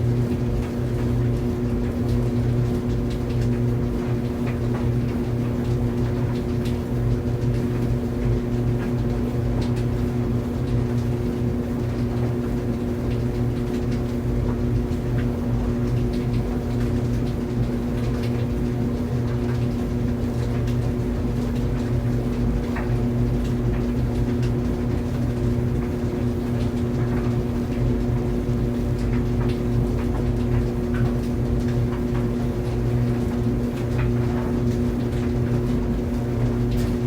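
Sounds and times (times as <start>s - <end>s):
clothes dryer humming: 0.0s - 37.0s.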